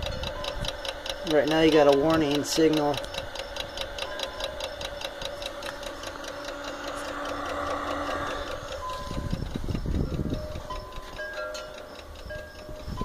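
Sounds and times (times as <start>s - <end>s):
fast even ticking: 0.0s - 13.0s
steady fan hum: 0.0s - 13.0s.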